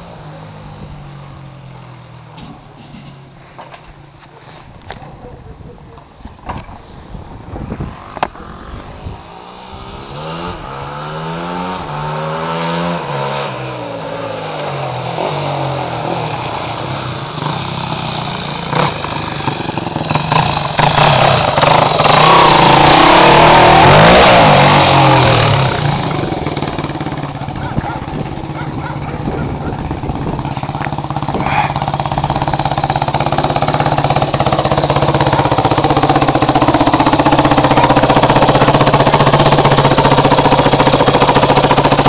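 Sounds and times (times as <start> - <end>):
dirt bike engine: 0.0 - 42.0.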